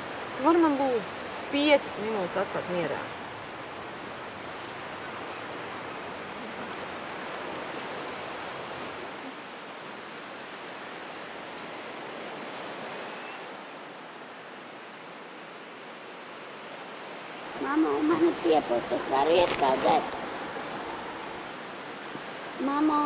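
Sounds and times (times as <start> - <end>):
small waves washing on sand: 0.0 - 13.1, 13.7 - 23.0.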